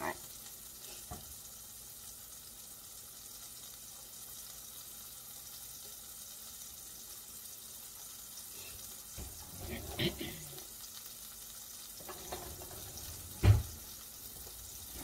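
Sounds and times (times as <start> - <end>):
burger patty sizzling in skillet: 0.0 - 15.0.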